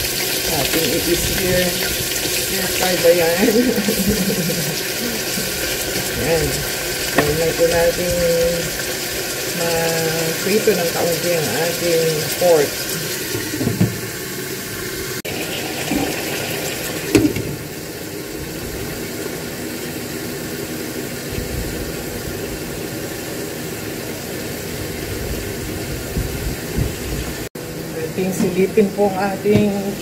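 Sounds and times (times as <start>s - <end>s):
meat sizzling in oil: 0.0s - 27.5s.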